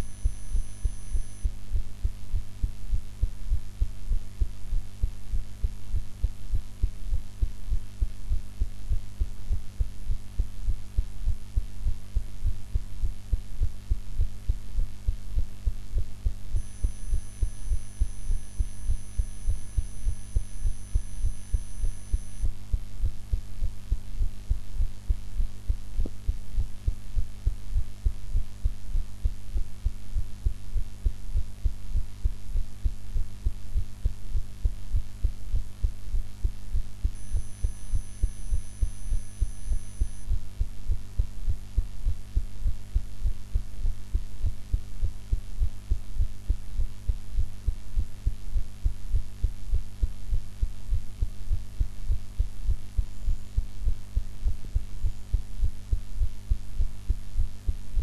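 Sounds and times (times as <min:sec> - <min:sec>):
constant low hum: 0:00.0 - 0:58.0
heartbeat thumps: 0:00.0 - 0:58.0.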